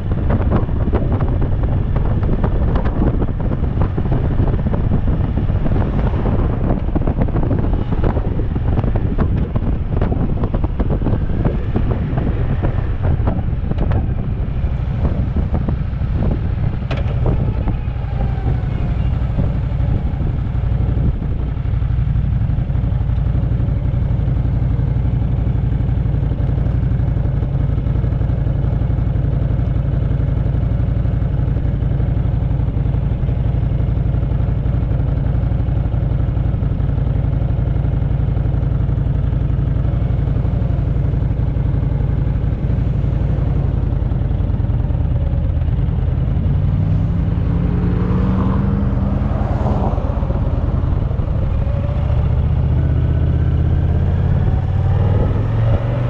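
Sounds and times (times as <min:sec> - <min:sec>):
motorcycle engine idling and accelerating: 0:00.0 - 0:56.0.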